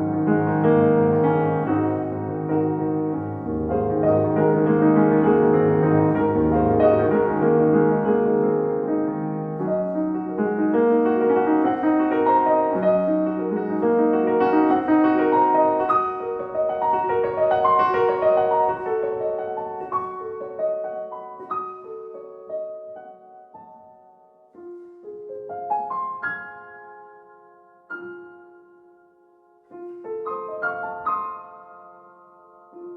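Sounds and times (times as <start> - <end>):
slow solo piano piece: 0.0 - 32.9.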